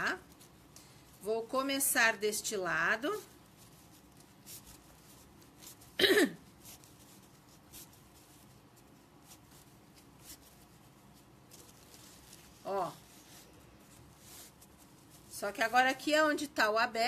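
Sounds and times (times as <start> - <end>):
fabric and ribbon rustling: 0.0 - 17.0.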